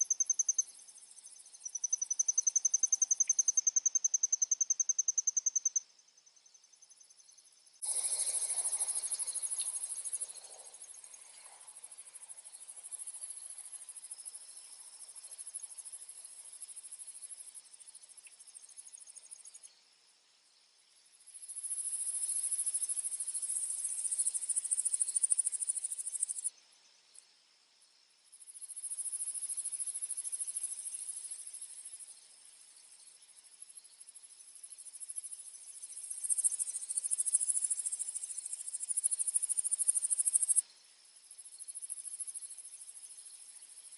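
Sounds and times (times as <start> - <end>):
insects chirring in loud trills: 0.0 - 19.8, 28.3 - 43.9
faint steady high insect tone: 0.0 - 43.9.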